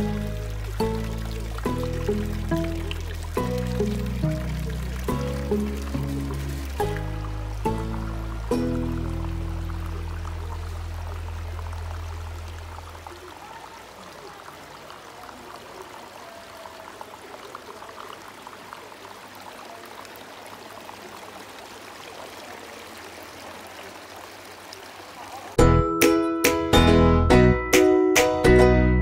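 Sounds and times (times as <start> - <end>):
fountain water trickling: 0.0 - 25.6.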